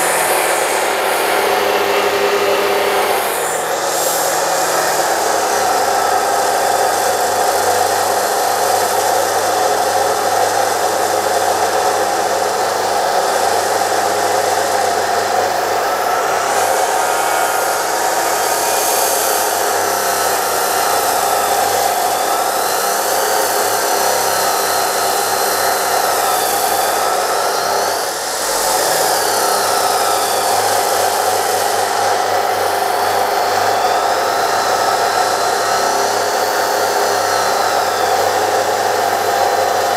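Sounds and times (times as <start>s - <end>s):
chop saw grinding steel: 0.0s - 39.9s.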